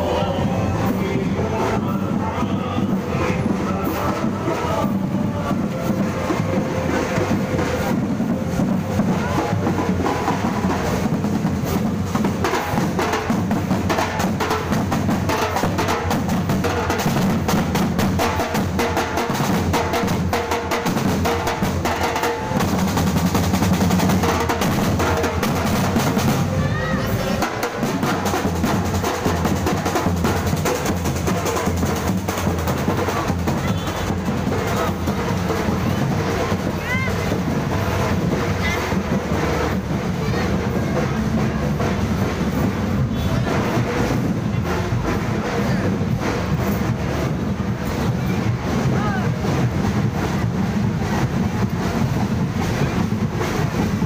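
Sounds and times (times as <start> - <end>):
snare and bass drums: 0.0 - 54.0.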